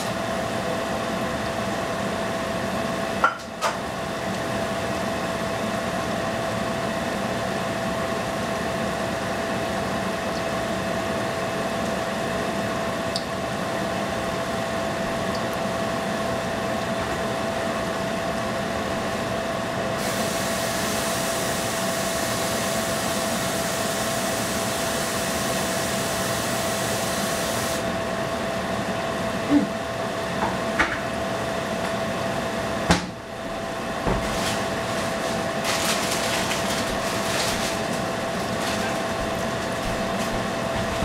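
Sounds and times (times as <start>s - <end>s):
fan humming: 0.0s - 41.0s.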